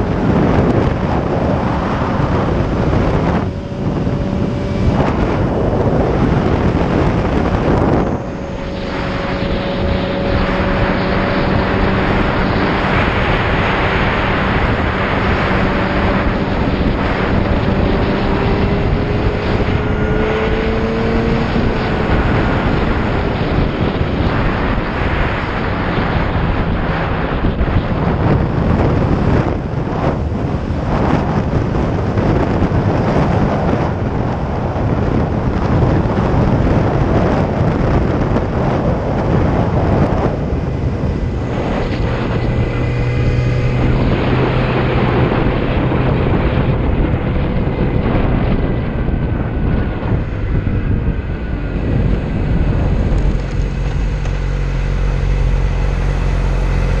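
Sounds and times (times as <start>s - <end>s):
motorcycle engine: 0.0s - 57.0s
wind buffeting microphone: 0.0s - 57.0s.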